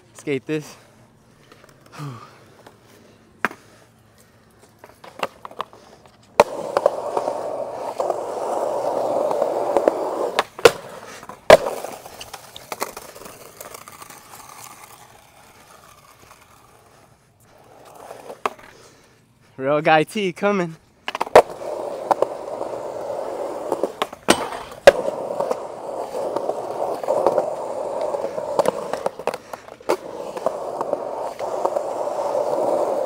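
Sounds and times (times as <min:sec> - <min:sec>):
skateboard wheels rolling on concrete: 0:00.0 - 0:33.0
skateboard clacking on ground: 0:01.4 - 0:18.8, 0:21.0 - 0:33.0.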